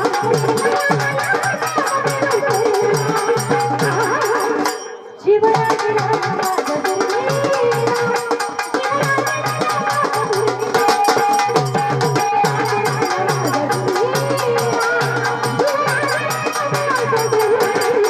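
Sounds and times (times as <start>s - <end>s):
drum beat: 0.0s - 4.8s, 5.5s - 18.0s
clacking hand percussion: 0.0s - 18.0s
person singing folk song: 0.0s - 18.0s.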